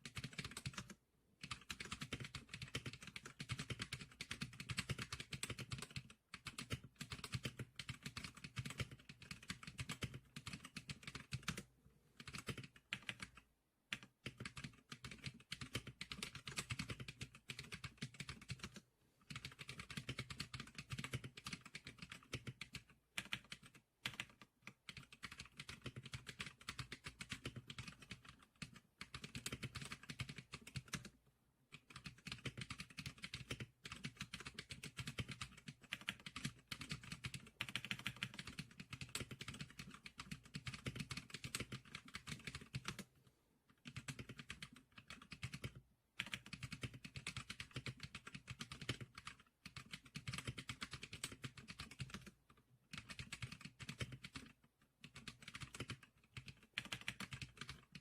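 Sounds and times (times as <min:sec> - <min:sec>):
fast keyboard typing: 0:00.0 - 0:43.1, 0:43.7 - 0:58.0.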